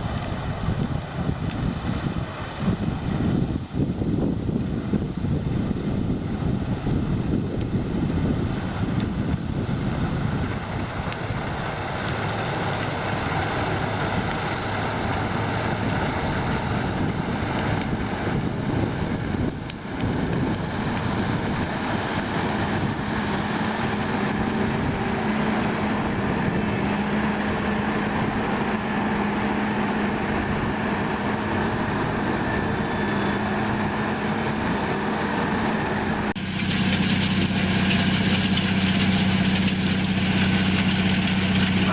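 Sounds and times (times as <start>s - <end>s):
heavy vehicle engine running: 0.0s - 41.9s.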